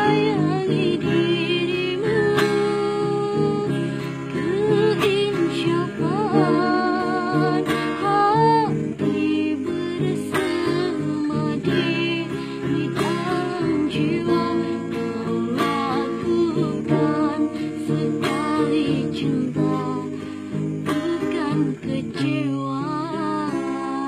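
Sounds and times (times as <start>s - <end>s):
acoustic guitar: 0.0s - 24.0s
woman singing: 0.0s - 24.0s.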